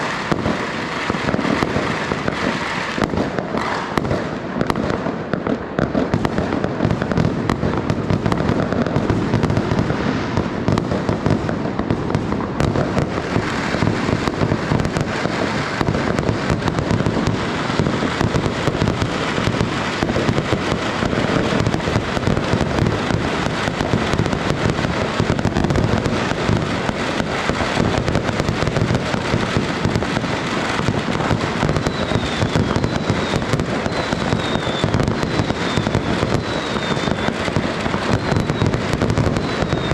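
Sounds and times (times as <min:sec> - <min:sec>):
falling firework whistles: 0:00.0 - 0:04.8, 0:07.9 - 0:39.9
fireworks crackling bangs: 0:00.0 - 0:39.9.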